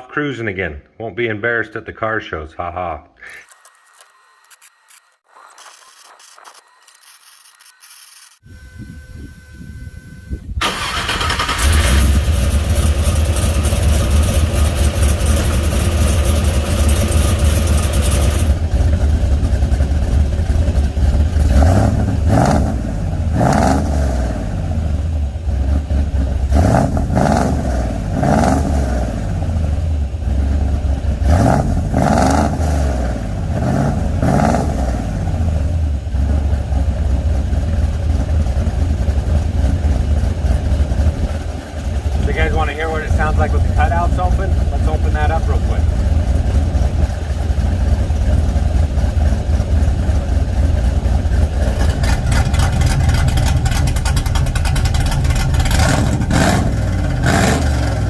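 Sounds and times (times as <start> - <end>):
truck engine idling and revving: 8.5 - 58.0.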